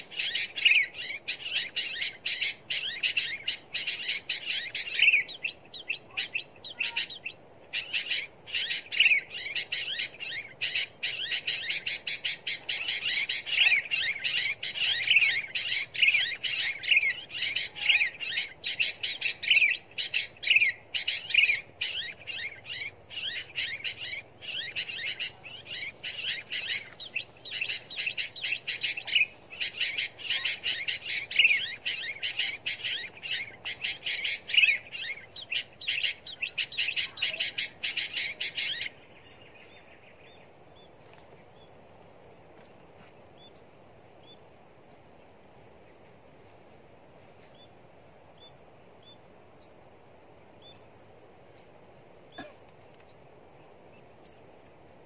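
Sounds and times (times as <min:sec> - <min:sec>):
small birds chirping: 0:00.0 - 0:49.8, 0:50.6 - 0:54.8.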